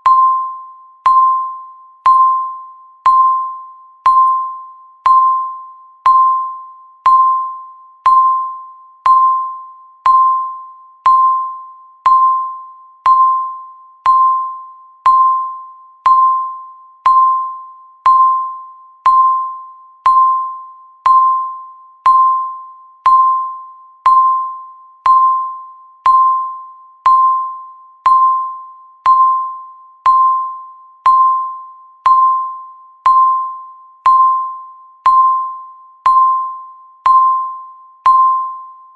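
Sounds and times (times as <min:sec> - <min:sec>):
countdown timer beeps: 0:00.0 - 0:38.9.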